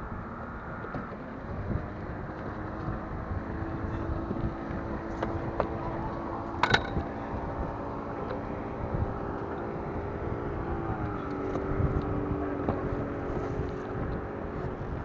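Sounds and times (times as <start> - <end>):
boat motor humming: 0.0 - 15.0
wind on microphone: 0.0 - 15.0.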